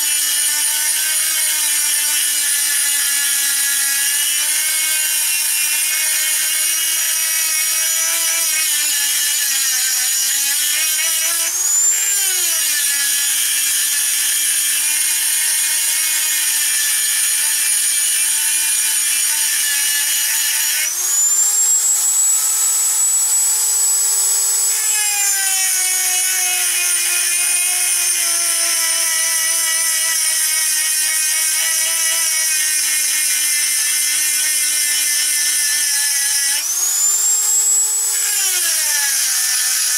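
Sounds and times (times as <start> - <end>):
rotary tool grinding steel: 0.0 - 39.9.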